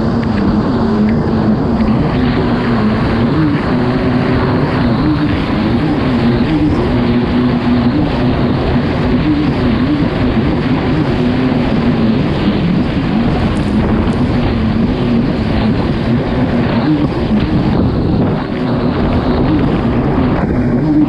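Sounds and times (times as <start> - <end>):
watercraft engine running hard: 0.0 - 21.0
wind and water rushing: 0.0 - 21.0.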